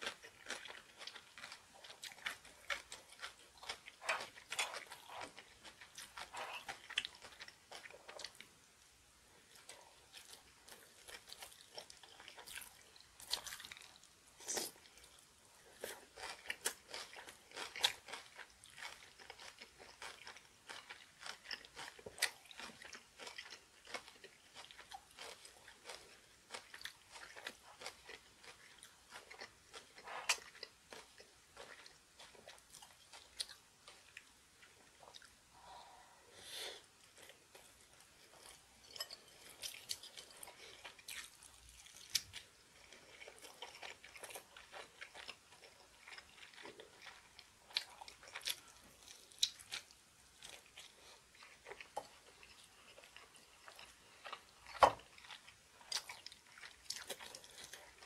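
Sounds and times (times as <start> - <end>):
crunchy chewing: 0.0 - 8.5, 9.5 - 35.3, 37.0 - 58.0.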